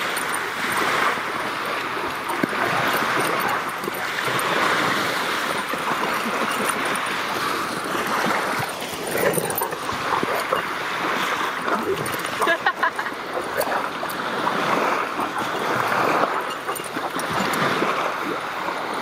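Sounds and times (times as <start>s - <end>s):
beach surf rushing: 0.0s - 19.0s
dogs growling and barking: 2.1s - 18.0s.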